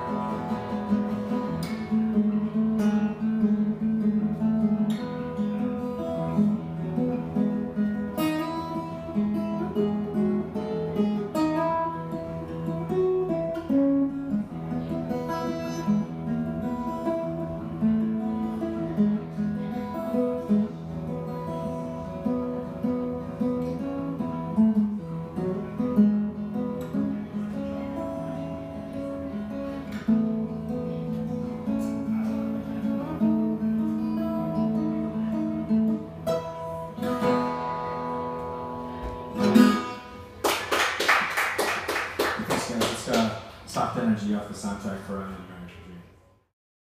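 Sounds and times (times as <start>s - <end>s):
acoustic guitar instrumental: 0.0s - 46.4s.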